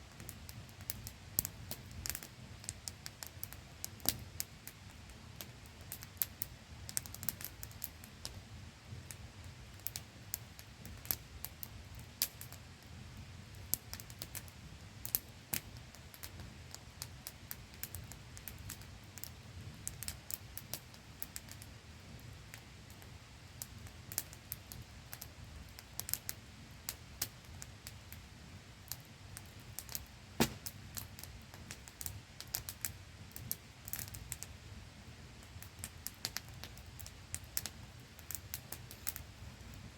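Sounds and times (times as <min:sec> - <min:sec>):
campfire crackling and popping: 0:00.1 - 0:34.5, 0:35.4 - 0:39.8.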